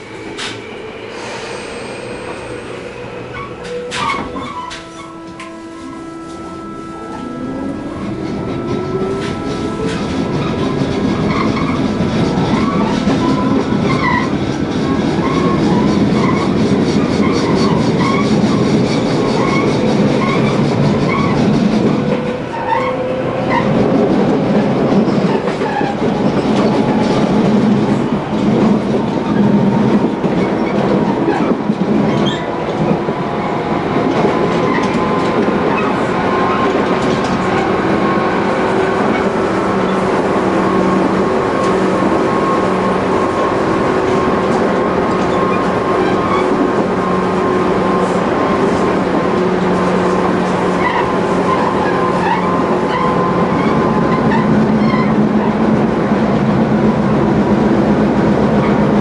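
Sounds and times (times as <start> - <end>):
steady train hum: 0.0 - 59.0
train wheels rumbling and clacking: 0.0 - 59.0.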